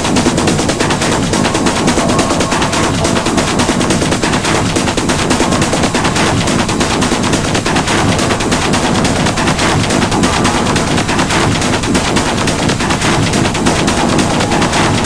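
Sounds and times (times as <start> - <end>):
electronic dance music: 0.9 - 6.4, 8.0 - 15.0.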